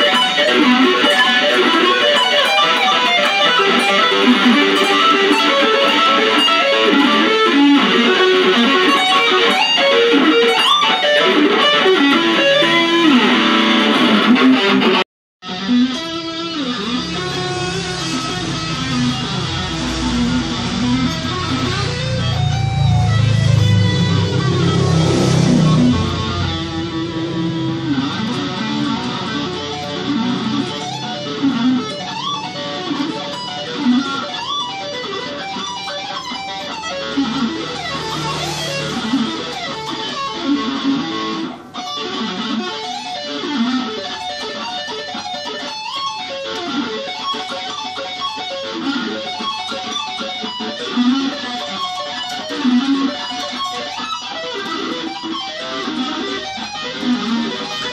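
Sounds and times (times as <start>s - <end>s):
electric guitar playing: 0.0s - 57.9s.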